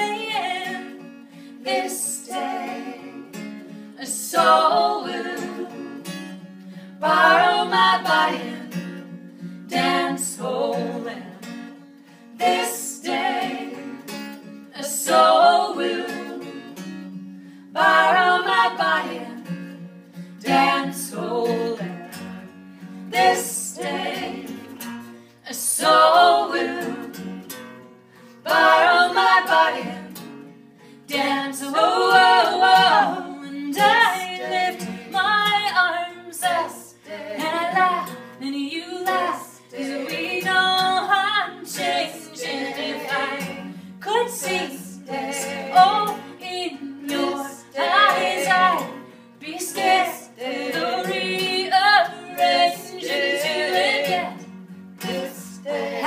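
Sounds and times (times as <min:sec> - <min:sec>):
women singing: 0:00.0 - 0:11.8, 0:12.4 - 0:27.5, 0:28.4 - 0:30.4, 0:31.0 - 0:56.0.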